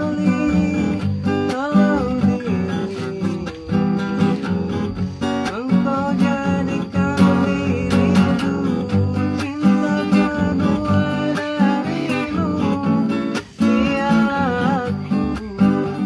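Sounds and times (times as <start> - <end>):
acoustic guitar strumming: 0.0 - 16.0
man singing: 0.0 - 16.0.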